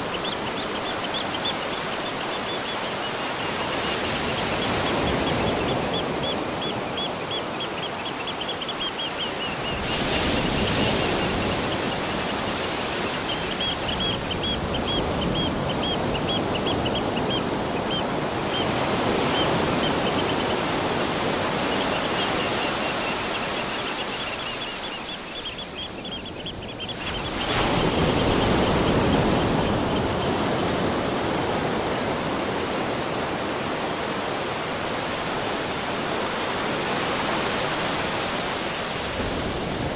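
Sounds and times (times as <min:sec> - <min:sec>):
ocean surf washing in: 0:00.0 - 0:07.6, 0:09.2 - 0:26.0, 0:26.8 - 0:39.9.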